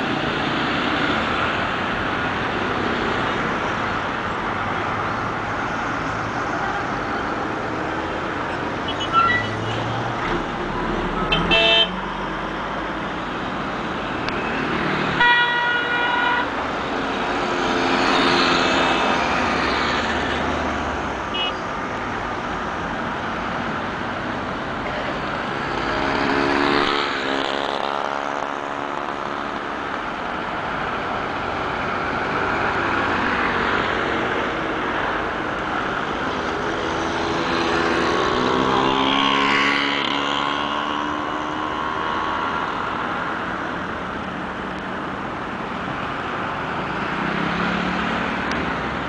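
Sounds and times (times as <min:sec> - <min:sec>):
road traffic: 0:00.0 - 0:49.0
vehicles passing close by: 0:00.0 - 0:49.0.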